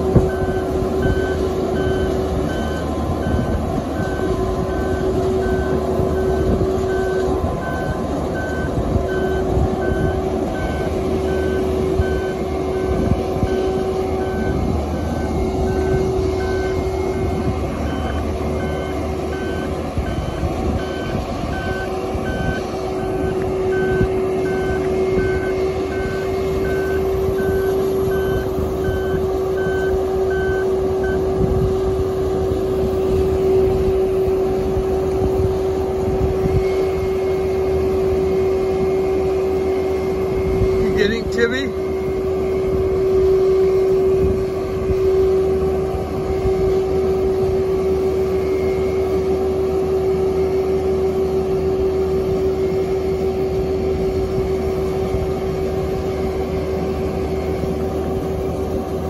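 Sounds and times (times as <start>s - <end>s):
travel alarm beeping: 0.0s - 58.9s
engine humming: 0.0s - 59.0s.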